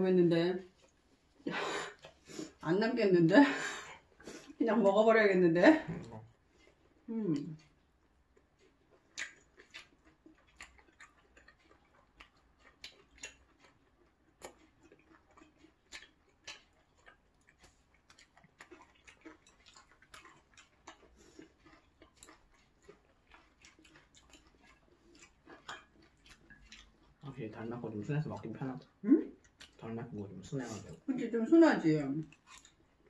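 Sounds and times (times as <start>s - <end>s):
person chewing: 0.7s - 2.6s, 3.7s - 4.6s, 5.8s - 31.1s, 32.2s - 33.0s.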